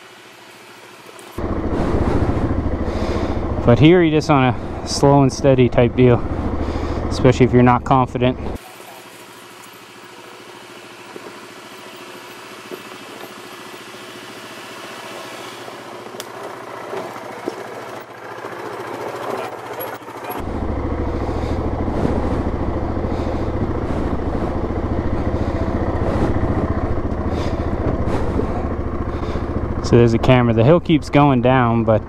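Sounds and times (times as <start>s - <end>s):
quad bike engine running: 0.0s - 32.0s.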